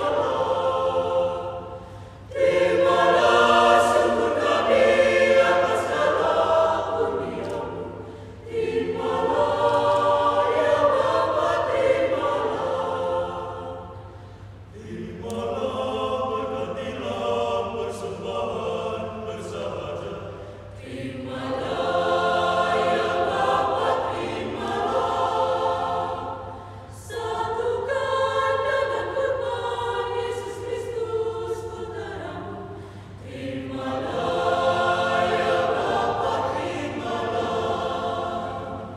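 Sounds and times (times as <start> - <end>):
mixed choir singing: 0.0 - 38.9.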